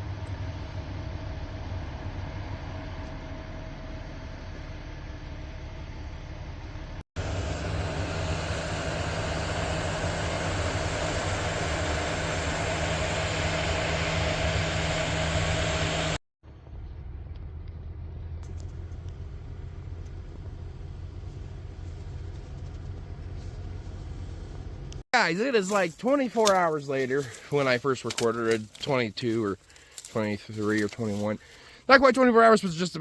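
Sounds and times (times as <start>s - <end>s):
diesel machinery engine drone: 0.0s - 32.2s
quieter engine hum: 0.0s - 33.0s.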